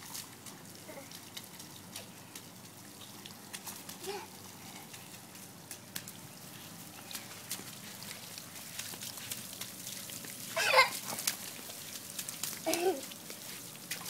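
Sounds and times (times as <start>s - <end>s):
sprinkler water pattering on grass: 0.0s - 14.0s.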